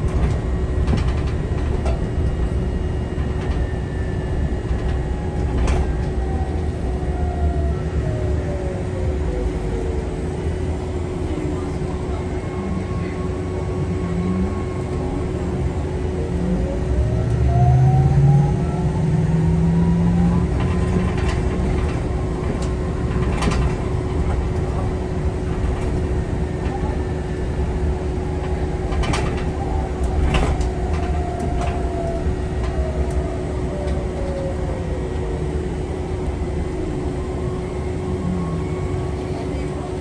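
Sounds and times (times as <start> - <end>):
bus engine rumble and whine: 0.0 - 40.0.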